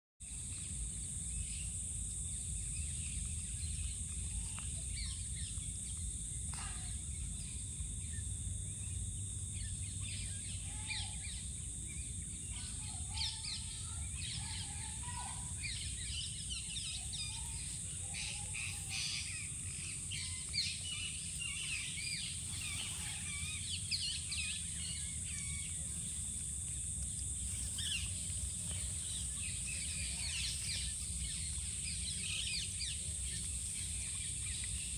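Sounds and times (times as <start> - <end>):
steady high hiss: 0.2 - 34.9.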